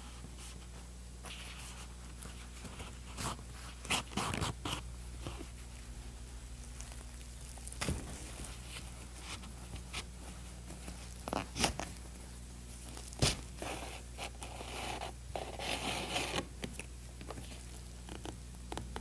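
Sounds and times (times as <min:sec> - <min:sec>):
low steady hum: 0:00.0 - 0:19.0
twine rustling against leather: 0:00.0 - 0:19.0.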